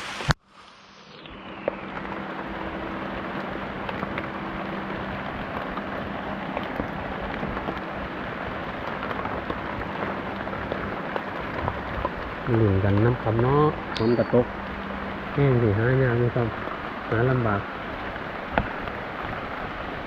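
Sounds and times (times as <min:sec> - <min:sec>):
steady rain with drops ticking: 0:00.0 - 0:20.0.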